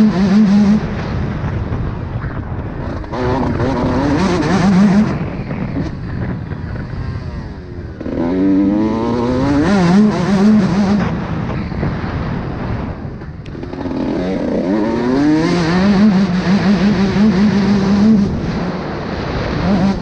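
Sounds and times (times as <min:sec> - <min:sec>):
two-stroke motocross engine revving: 0:00.0 - 0:01.0, 0:02.8 - 0:11.3, 0:13.4 - 0:20.0.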